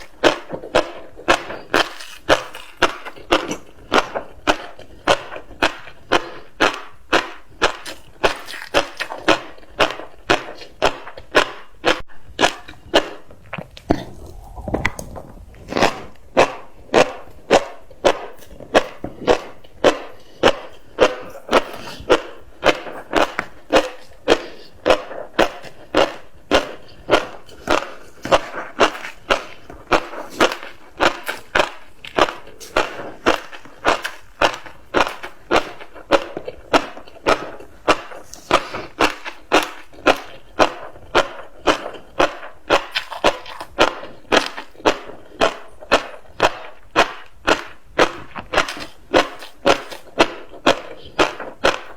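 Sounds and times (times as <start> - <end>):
crunchy chewing: 0.0 - 51.9.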